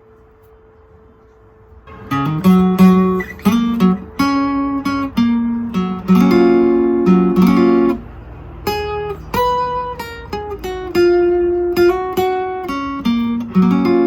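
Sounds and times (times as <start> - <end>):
acoustic guitar chords: 1.8 - 14.0.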